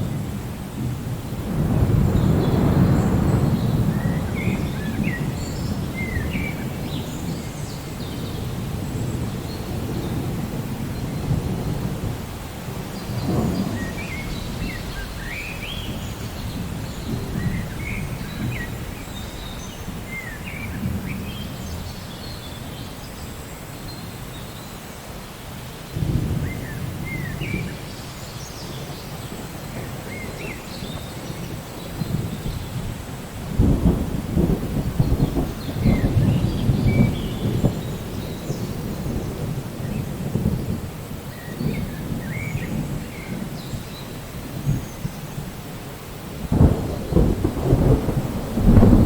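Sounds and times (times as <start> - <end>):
thunder rolling: 0.0 - 19.4, 28.8 - 49.0
steady rain: 0.0 - 49.0.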